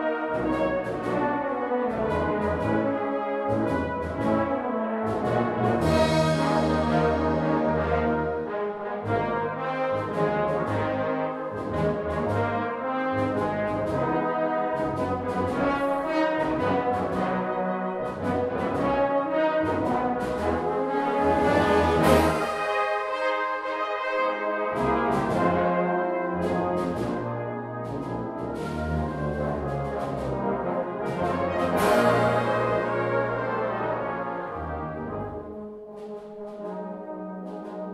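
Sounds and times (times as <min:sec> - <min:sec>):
brass band playing: 0:00.0 - 0:37.9.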